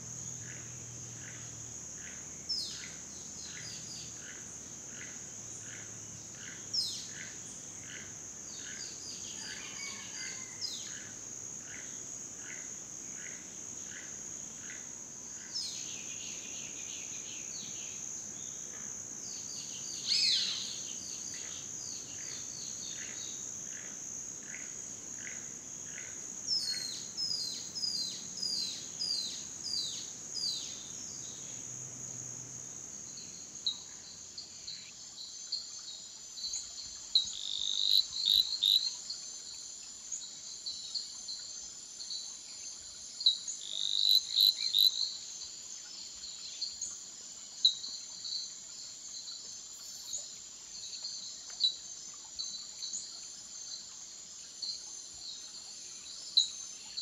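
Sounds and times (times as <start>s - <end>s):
high-pitched insect trill: 0.0s - 57.0s.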